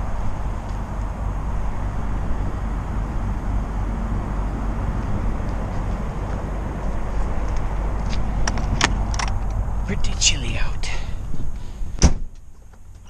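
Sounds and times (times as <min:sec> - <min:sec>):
low engine rumble: 0:00.0 - 0:13.0
road noise: 0:00.0 - 0:13.0.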